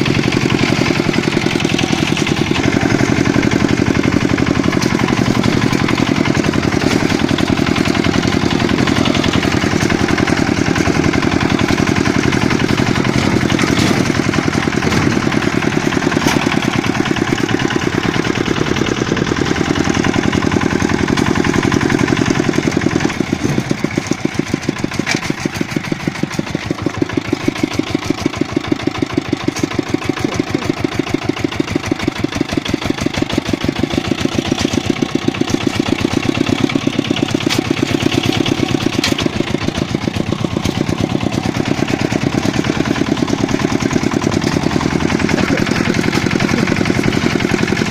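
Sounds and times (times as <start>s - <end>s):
single-cylinder engine running: 0.0s - 47.9s.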